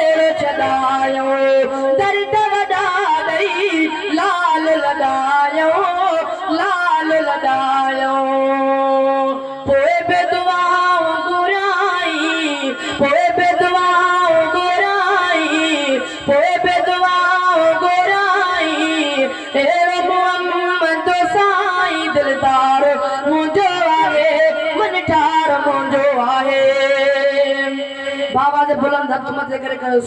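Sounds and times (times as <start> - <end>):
young man singing unaccompanied: 0.0 - 30.0.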